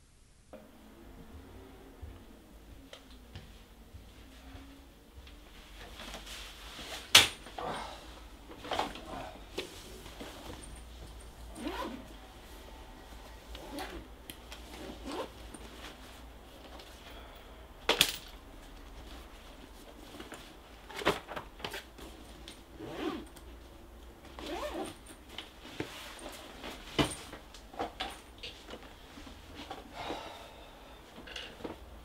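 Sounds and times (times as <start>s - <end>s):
soft rustling: 2.0s - 17.3s, 18.4s - 30.3s.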